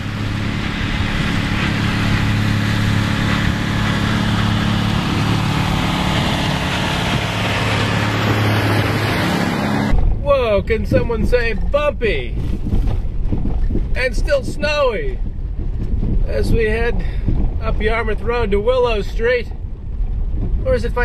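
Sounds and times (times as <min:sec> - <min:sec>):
car engine drone: 0:00.0 - 0:21.0
tyre and road noise: 0:00.0 - 0:21.0.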